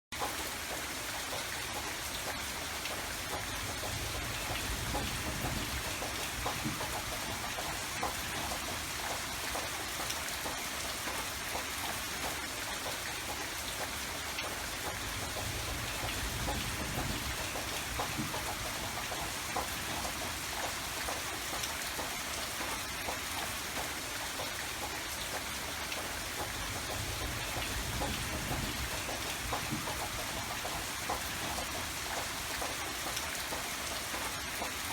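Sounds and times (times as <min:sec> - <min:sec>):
raindrops pattering: 0:00.2 - 0:34.9.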